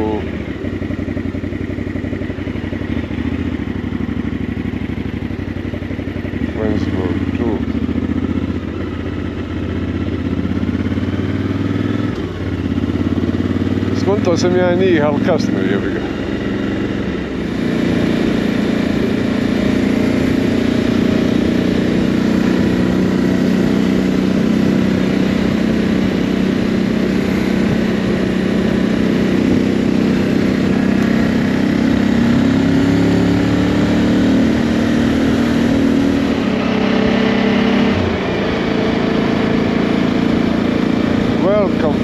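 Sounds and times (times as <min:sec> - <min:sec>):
motorcycle engine cruising: 0:00.0 - 0:42.0
wind and road noise: 0:00.0 - 0:42.0.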